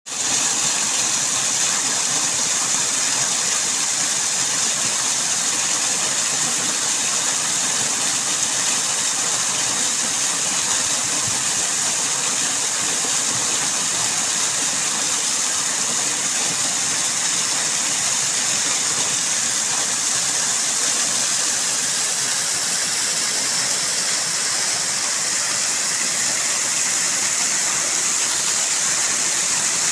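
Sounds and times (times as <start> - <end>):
waterfall rushing: 0.2 - 29.9.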